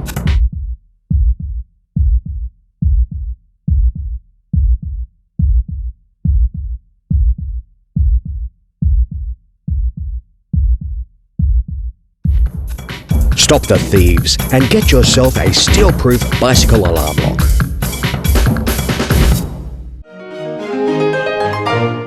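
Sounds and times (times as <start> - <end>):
heartbeat-like double thump music: 0.0 - 20.0.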